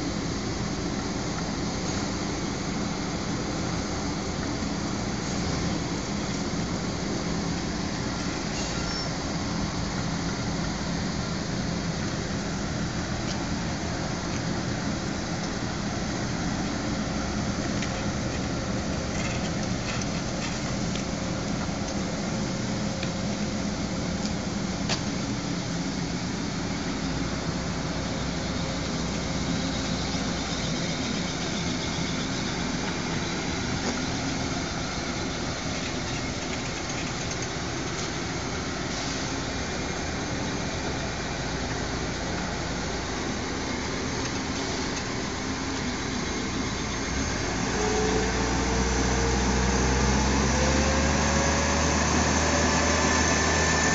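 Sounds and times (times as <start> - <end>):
forklift engine running: 0.0 - 53.9.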